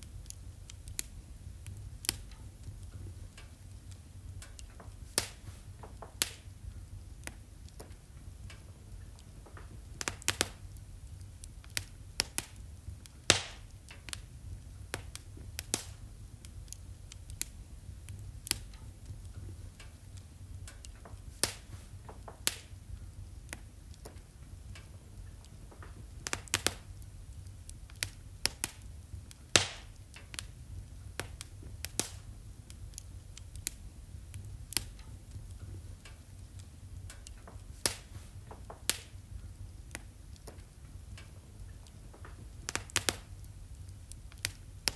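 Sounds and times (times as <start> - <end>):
low steady rumble: 0.0 - 44.9
wood fire crackling: 0.0 - 44.9.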